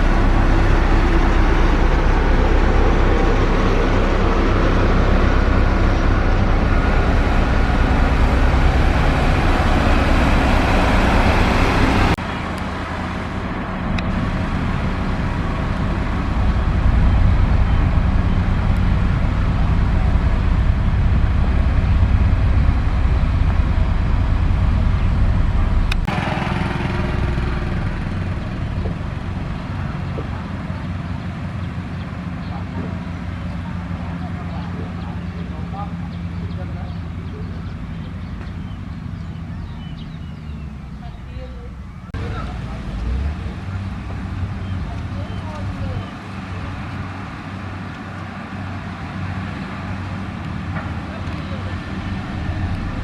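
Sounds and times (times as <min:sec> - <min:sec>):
diesel engines running: 0:00.0 - 0:53.0.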